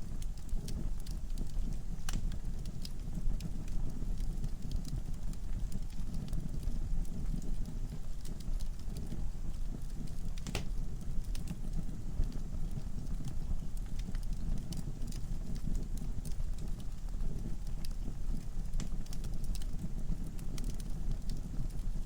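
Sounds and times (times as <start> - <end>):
log fire crackling and popping: 0.0 - 22.0.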